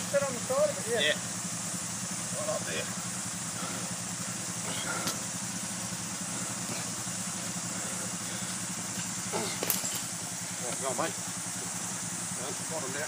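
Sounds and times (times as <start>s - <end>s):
motorbike engine idling: 0.0s - 13.0s.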